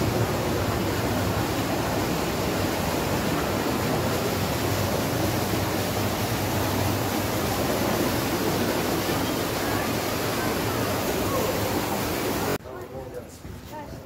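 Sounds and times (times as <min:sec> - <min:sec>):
stream rushing over rocks: 0:00.0 - 0:12.6.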